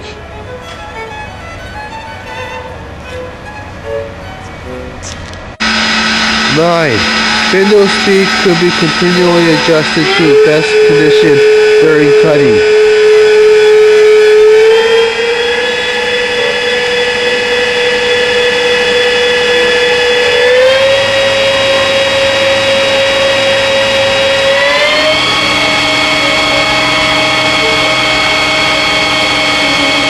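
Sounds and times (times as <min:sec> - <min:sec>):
lathe motor whining: 0:00.0 - 0:30.0.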